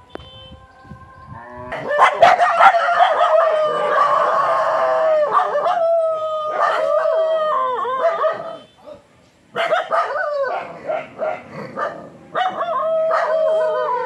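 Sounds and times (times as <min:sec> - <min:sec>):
dogs howling: 0:01.0 - 0:08.6, 0:09.6 - 0:14.0
dogs barking: 0:01.7 - 0:14.0.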